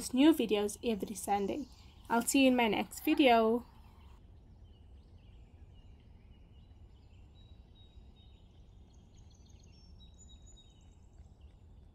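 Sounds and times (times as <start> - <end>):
faint high bird chirps: 0.0 - 11.9
faint low hum: 0.0 - 11.9.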